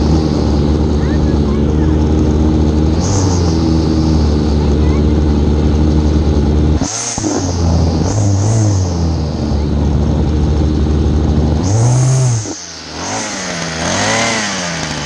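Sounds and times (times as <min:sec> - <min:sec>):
string trimmer engine revving: 0:00.0 - 0:15.0.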